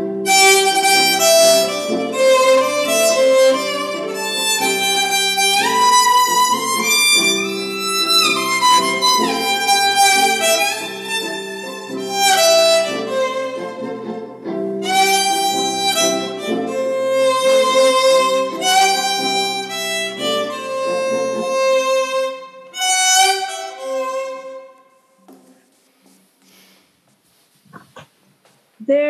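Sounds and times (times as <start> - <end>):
solo violin slow melody: 0.0 - 25.1.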